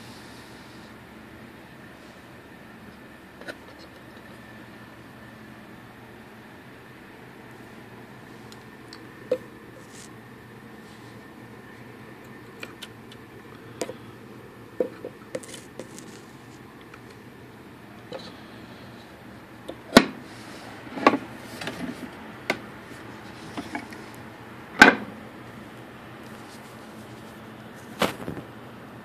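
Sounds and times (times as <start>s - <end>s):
room noise hiss: 0.0s - 29.0s.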